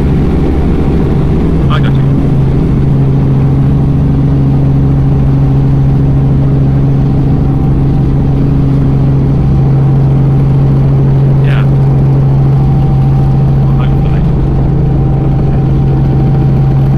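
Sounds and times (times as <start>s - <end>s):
helicopter engine and rotors droning: 0.0s - 16.9s.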